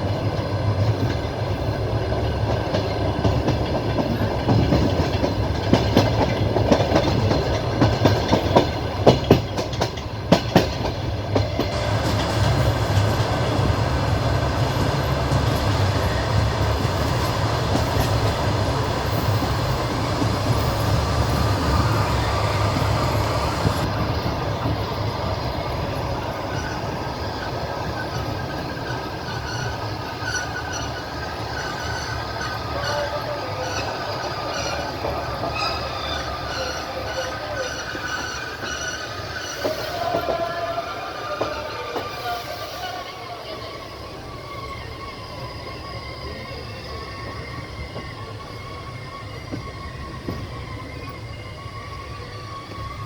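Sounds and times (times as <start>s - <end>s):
train wheels clacking on rail joints: 0.0s - 43.0s, 46.9s - 53.0s
train rolling rumble: 0.0s - 53.0s.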